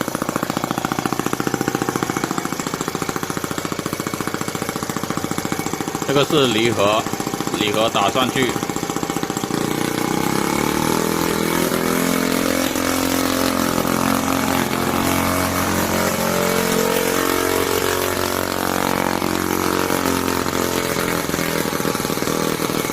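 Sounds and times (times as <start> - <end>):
small petrol engine running: 0.0 - 22.9.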